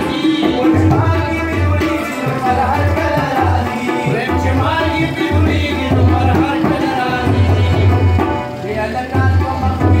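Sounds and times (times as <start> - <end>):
hand drum beats: 0.0 - 10.0
harmonium: 0.0 - 10.0
rubab: 0.0 - 10.0.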